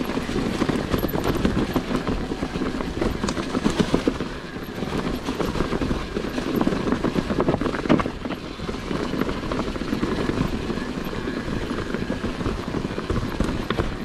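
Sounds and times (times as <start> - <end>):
mountain bike rattling over stones: 0.0 - 14.0.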